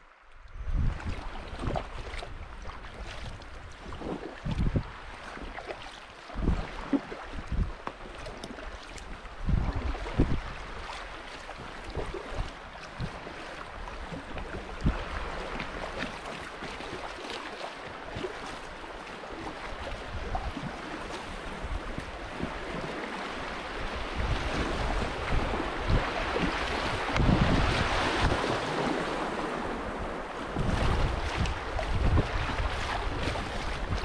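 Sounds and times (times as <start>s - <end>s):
paddle splashes: 0.0s - 34.0s
rushing river water: 0.0s - 34.0s
wind buffeting microphone: 0.5s - 5.4s, 6.3s - 7.9s, 9.0s - 10.9s, 11.5s - 16.2s, 19.6s - 34.0s.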